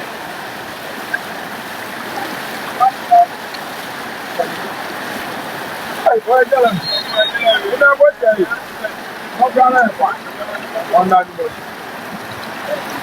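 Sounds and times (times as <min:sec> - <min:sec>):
floodwater rushing: 0:00.0 - 0:13.0
faint voices: 0:01.9 - 0:13.0.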